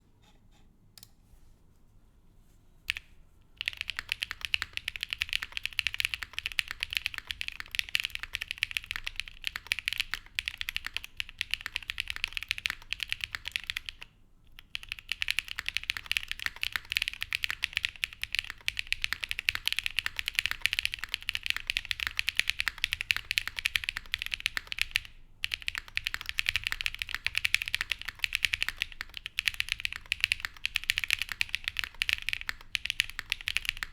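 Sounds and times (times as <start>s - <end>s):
fast mechanical keyboard typing: 3.6s - 33.9s.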